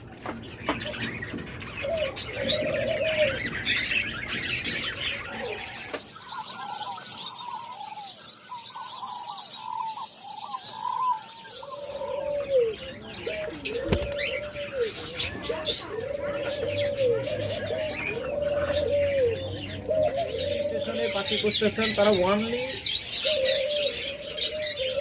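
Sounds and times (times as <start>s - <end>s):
doves cooing: 0.0s - 25.0s
parrots chirping and chattering: 0.0s - 25.0s.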